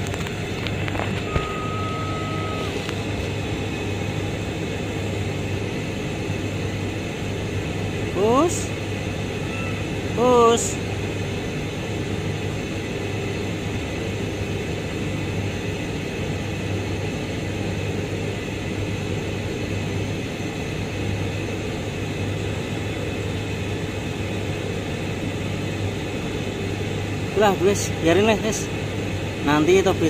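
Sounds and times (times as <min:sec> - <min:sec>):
industrial machinery hum: 0:00.0 - 0:30.0.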